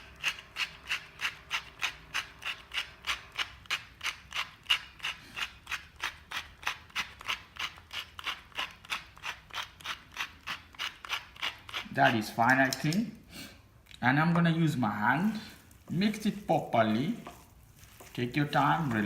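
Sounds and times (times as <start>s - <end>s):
pepper mill grinding: 0.0s - 13.0s, 15.2s - 19.0s.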